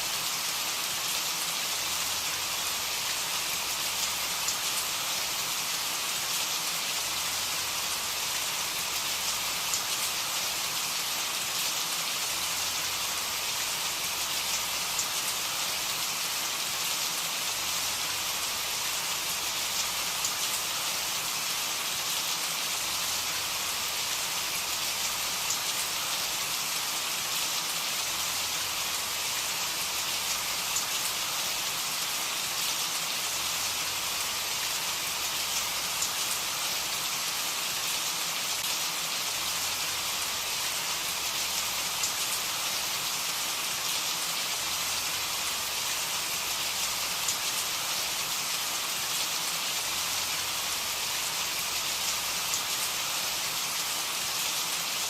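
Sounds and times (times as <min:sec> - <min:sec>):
rain patter on a surface: 0:00.0 - 0:55.0.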